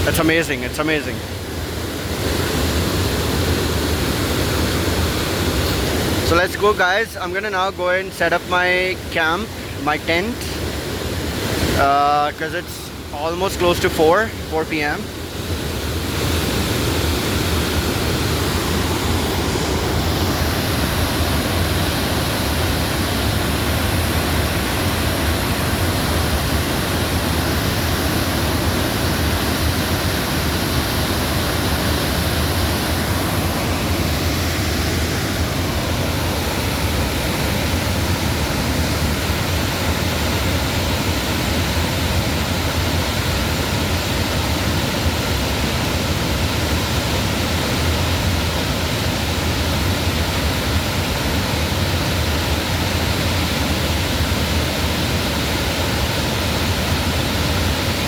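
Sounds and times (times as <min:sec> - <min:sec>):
large waterfall rushing: 0:00.0 - 0:58.0.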